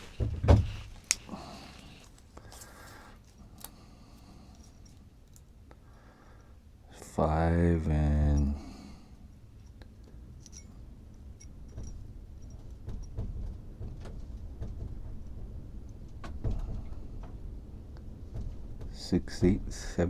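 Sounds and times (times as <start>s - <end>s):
faint handling clicks and knocks: 0.0s - 6.6s, 9.3s - 20.0s
low room rumble: 0.0s - 20.0s.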